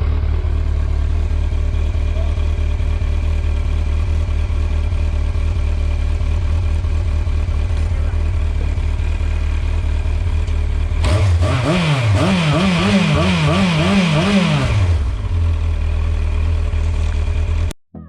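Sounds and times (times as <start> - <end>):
motorcycle engine idling and blipped: 0.0 - 18.0.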